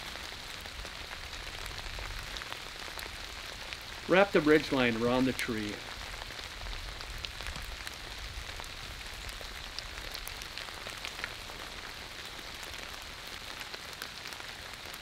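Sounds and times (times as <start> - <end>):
raindrop hits: 0.0 - 13.0
steady rain hiss: 0.0 - 15.0.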